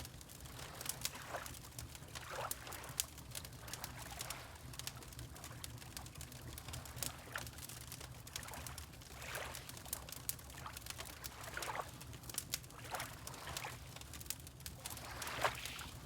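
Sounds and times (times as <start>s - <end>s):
wood fire crackling: 0.0s - 16.0s
water lapping: 0.2s - 14.1s, 14.7s - 16.0s.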